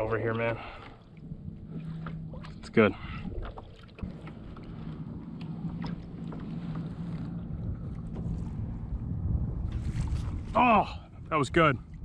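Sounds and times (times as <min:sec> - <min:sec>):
water lapping against hull: 0:00.0 - 0:12.0
wind on microphone: 0:01.2 - 0:12.0.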